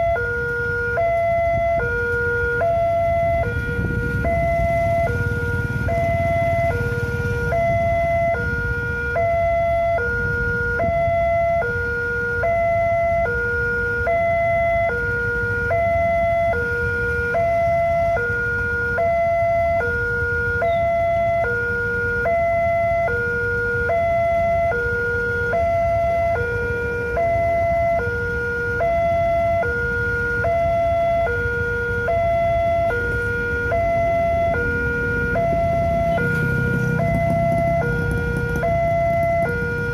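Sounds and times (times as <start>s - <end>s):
two-tone level-crossing alarm: 0.0s - 39.9s.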